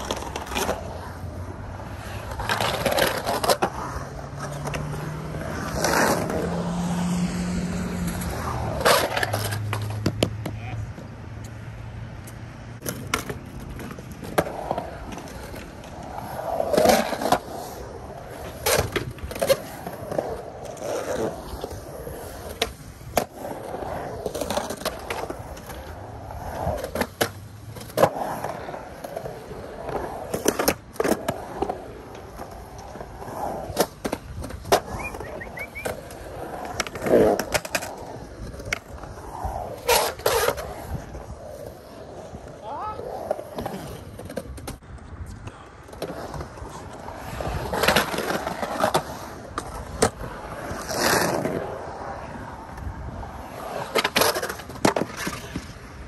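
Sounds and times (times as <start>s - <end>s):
skateboard clacking on coping: 0.0s - 6.8s, 7.8s - 11.5s, 12.2s - 56.0s
skateboard wheels rolling on concrete: 0.0s - 56.0s.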